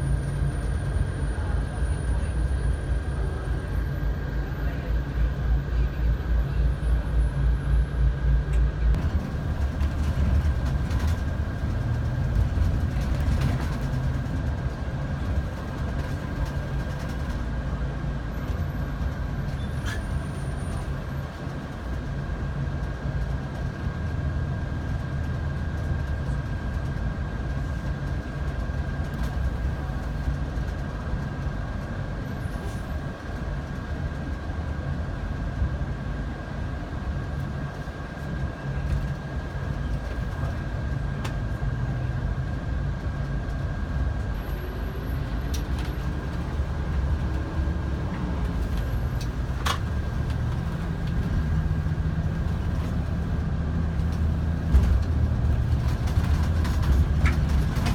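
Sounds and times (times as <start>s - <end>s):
constant high whine: 0.0s - 57.9s
moving vehicle rumble: 0.0s - 57.9s.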